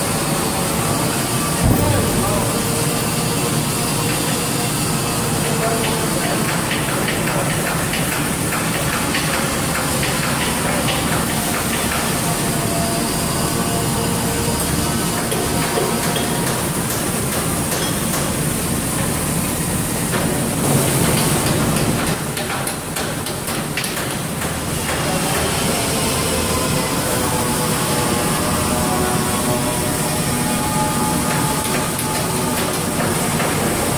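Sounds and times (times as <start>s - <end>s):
machine-shop noise: 0.0s - 33.9s.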